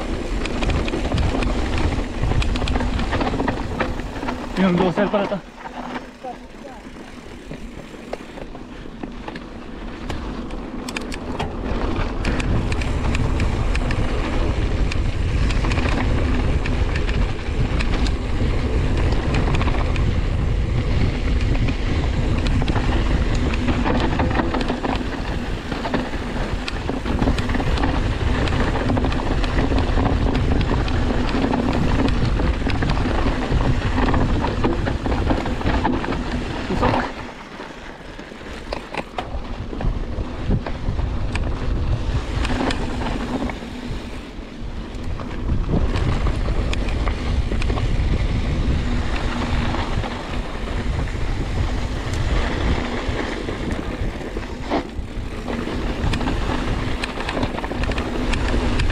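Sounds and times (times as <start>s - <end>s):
bike rattling over dirt: 0.0s - 58.9s
wind buffeting microphone: 0.0s - 58.9s.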